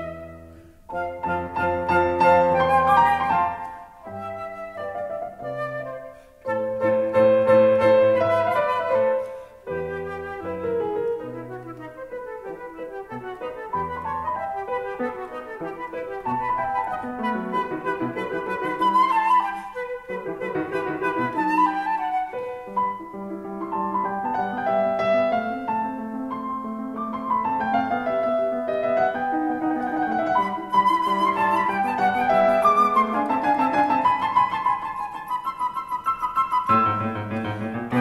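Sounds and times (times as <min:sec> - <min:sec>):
instrumental music: 0:00.0 - 0:38.0.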